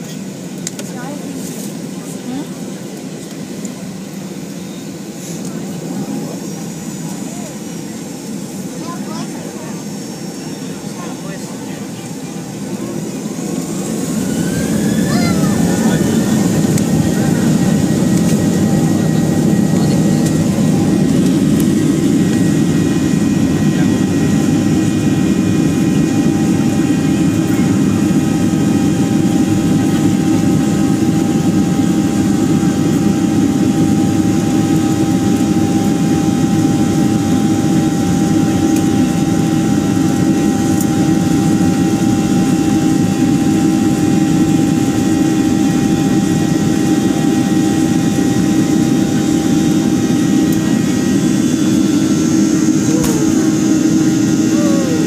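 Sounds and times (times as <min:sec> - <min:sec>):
engine whine: 0:00.0 - 0:55.0
jet engine rumble in cabin: 0:00.0 - 0:55.0.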